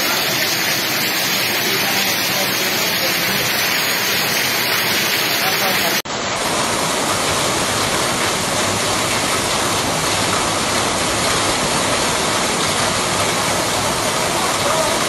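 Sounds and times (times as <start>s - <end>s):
floodwater running over road: 0.0s - 15.0s
heavy rain falling: 0.0s - 15.0s.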